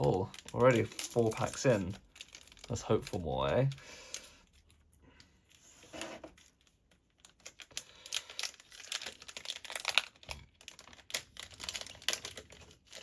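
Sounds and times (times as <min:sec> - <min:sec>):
wrapper crinkling and tearing: 0:00.0 - 0:04.9, 0:05.5 - 0:13.0.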